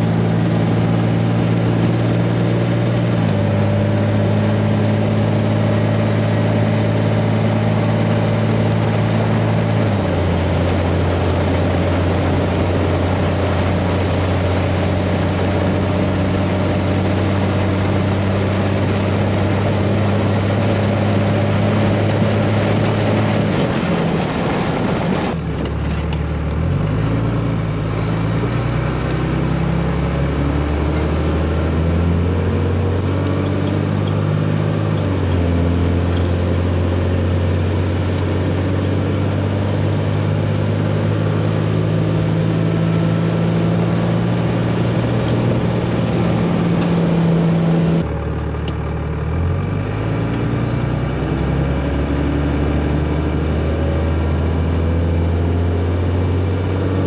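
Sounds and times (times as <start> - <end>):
diesel truck engine from cab: 0.0 - 57.0.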